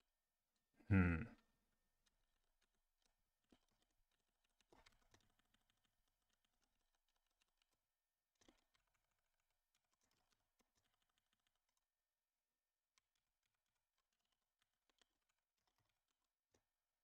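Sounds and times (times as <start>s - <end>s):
faint keyboard typing: 2.0s - 12.2s, 12.8s - 17.0s.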